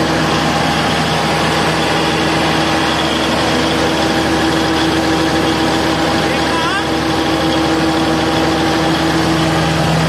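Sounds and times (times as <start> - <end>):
diesel generator running: 0.0 - 10.0.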